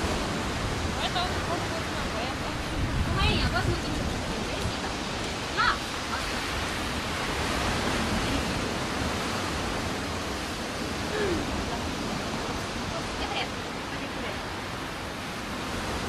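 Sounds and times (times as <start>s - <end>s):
surf on shingle beach: 0.0s - 16.0s.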